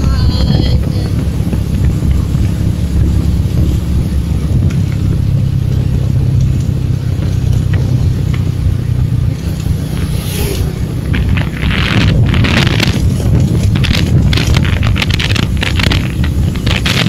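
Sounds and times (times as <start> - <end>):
vehicle rumbling on highway: 0.0 - 17.0.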